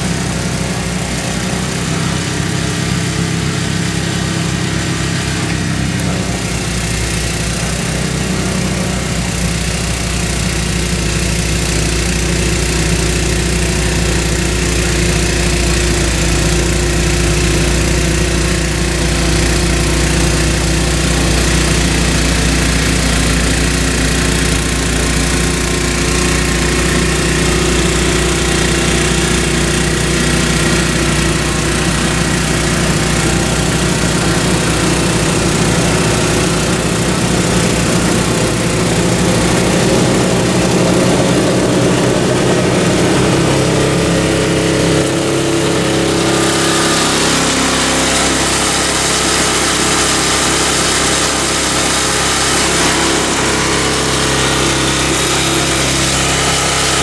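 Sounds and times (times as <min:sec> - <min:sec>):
auger throwing snow: 0:00.0 - 0:57.0
snowblower engine running: 0:00.0 - 0:57.0.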